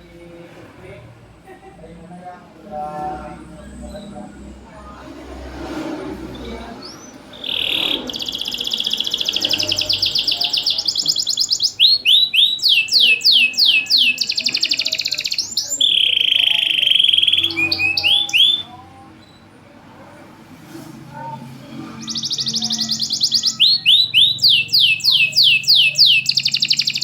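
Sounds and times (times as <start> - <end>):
canary singing: 2.6 - 19.5, 21.5 - 27.0.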